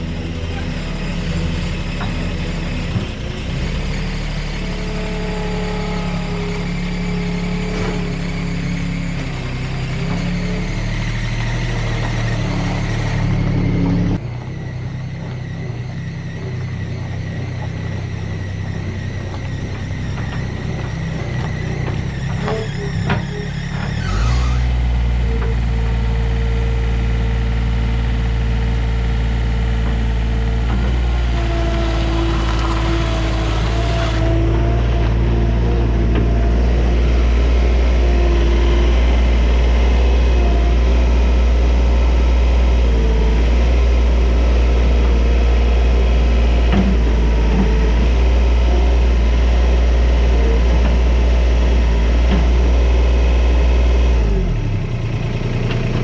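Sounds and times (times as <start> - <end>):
vehicle engine humming: 0.0 - 56.0.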